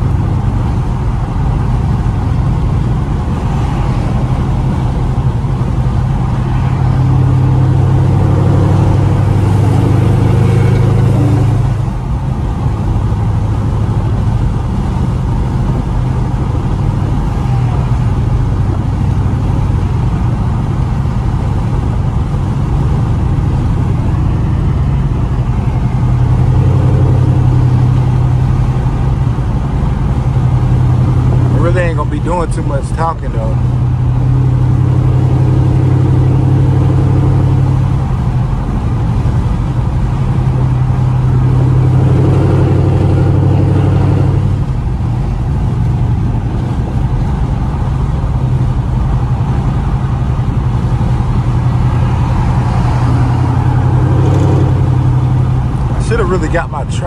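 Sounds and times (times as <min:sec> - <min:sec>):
car engine droning inside cabin: 0:00.0 - 0:57.0
road noise: 0:00.0 - 0:57.0.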